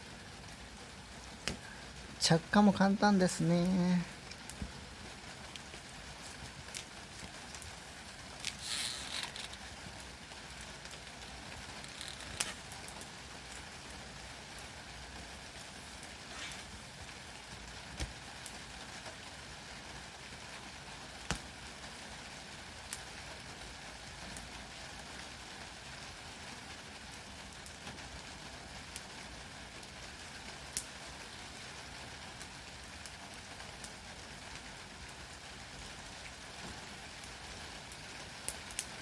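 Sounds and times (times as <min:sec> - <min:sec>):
fire crackling pops: 0:00.0 - 0:39.0
fire hissing: 0:00.0 - 0:39.0.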